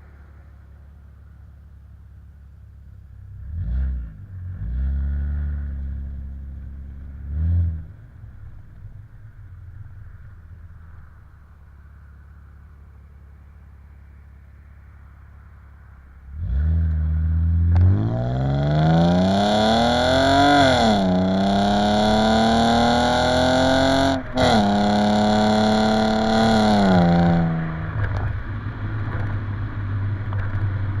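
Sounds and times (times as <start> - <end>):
car exhaust rumble accelerating: 0.0 - 31.0.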